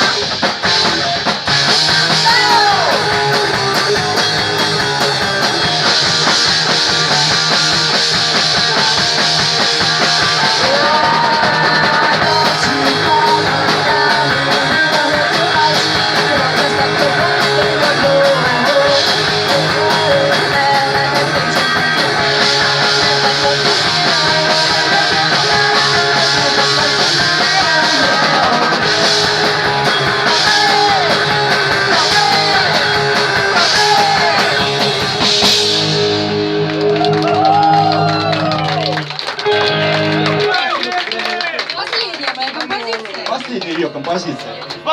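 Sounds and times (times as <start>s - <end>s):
punk rock band playing live: 0.0s - 43.3s.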